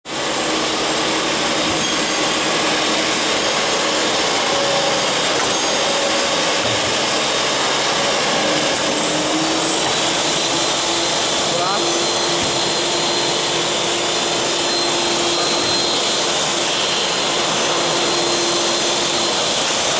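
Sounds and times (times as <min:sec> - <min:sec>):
machinery running: 0:00.1 - 0:19.9.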